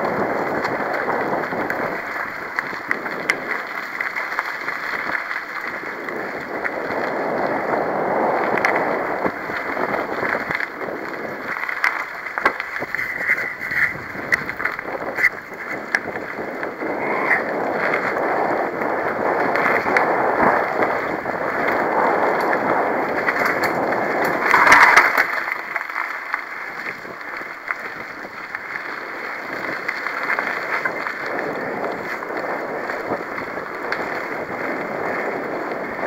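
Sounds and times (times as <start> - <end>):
bike clicks and rattles: 0.0 - 36.0
bike tyres rolling over dirt: 0.0 - 36.0
wind rushing on microphone: 0.0 - 36.0.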